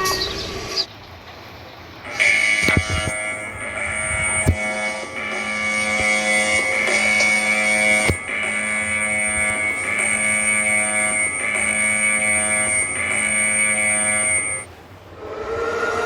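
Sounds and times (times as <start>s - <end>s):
harsh alarm buzz: 2.0s - 16.0s.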